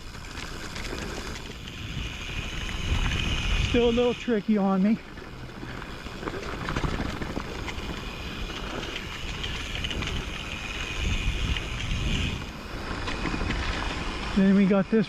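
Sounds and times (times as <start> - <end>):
bike rattles and clicks: 0.0 - 15.0
tyre noise on dirt: 0.2 - 14.8
wind rushing over microphone: 0.8 - 15.0.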